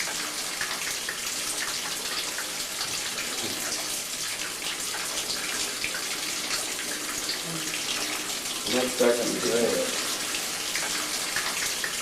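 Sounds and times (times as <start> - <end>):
tap running into basin: 0.0 - 12.0.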